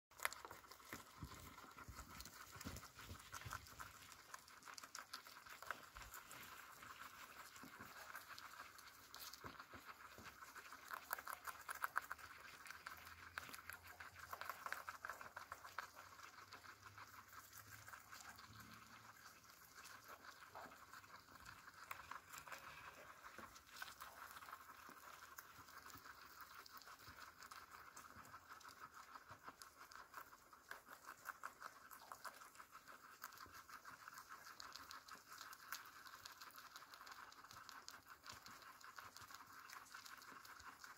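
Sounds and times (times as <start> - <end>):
guinea pigs crunching greens: 0.1 - 40.9.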